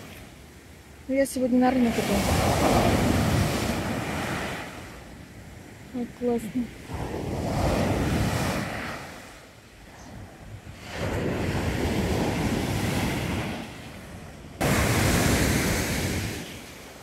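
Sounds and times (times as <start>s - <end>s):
sea waves breaking on beach: 0.0s - 17.0s
wind on microphone: 1.4s - 17.0s.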